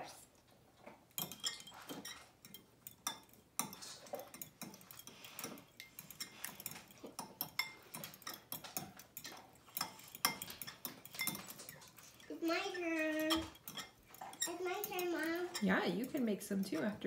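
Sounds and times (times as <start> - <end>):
fork clinking against glass bowl: 1.1 - 16.8.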